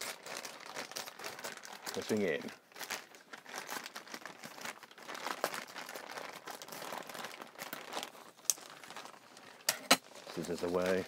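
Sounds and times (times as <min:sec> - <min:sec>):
parcel wrapping crinkling: 0:00.0 - 0:11.0.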